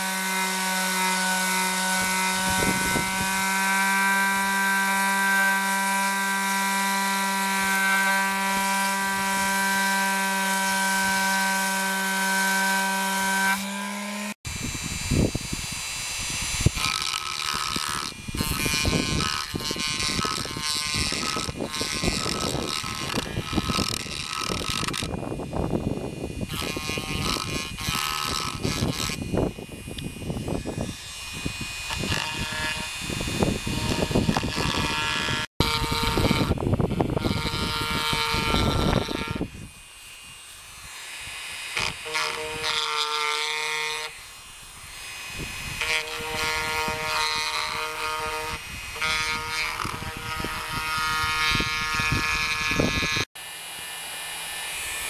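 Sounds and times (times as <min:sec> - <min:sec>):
rough grinding: 0:00.0 - 0:14.4, 0:15.1 - 0:53.3
rotary tool motor whine: 0:00.0 - 0:55.0.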